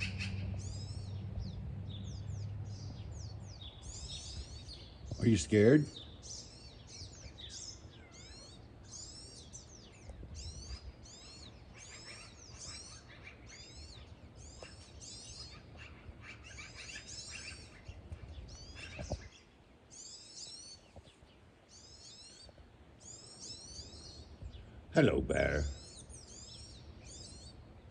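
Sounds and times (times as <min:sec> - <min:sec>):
small songbirds chirping: 0:00.0 - 0:27.9.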